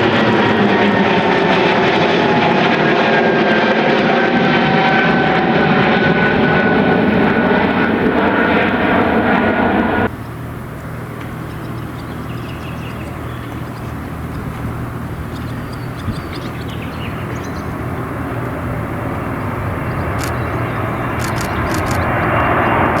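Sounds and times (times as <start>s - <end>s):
airliner engines whining: 0.0s - 23.0s
steady low hum: 0.0s - 23.0s.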